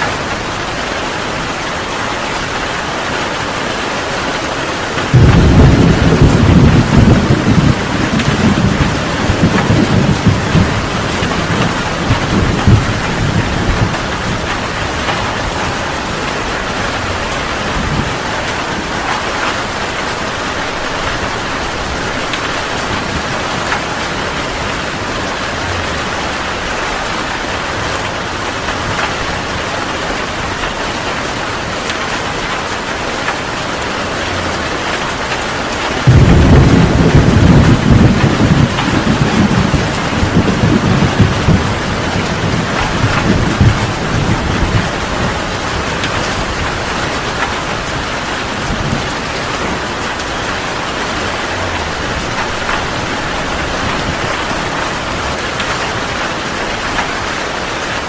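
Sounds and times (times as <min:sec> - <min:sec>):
heavy rain hissing: 0:00.0 - 0:58.0
low rumble of thunder: 0:05.0 - 0:30.9, 0:34.4 - 0:56.0.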